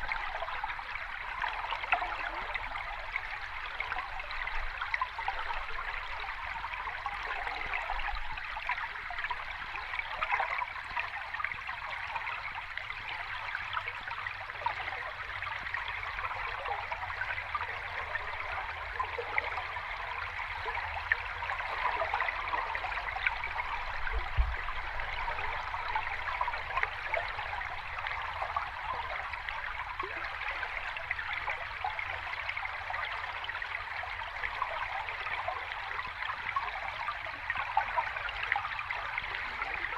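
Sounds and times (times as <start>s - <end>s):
water flowing in small cascade: 0.0s - 39.9s.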